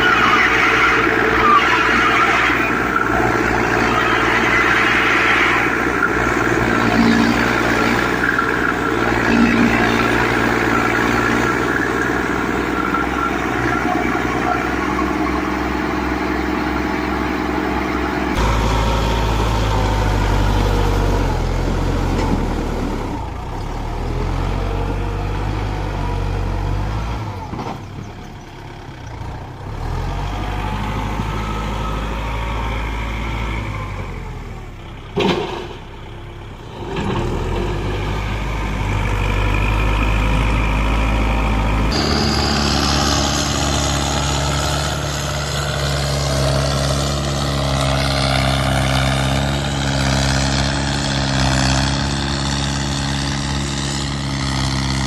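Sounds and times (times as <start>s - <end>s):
tractor engines labouring: 0.0s - 55.0s.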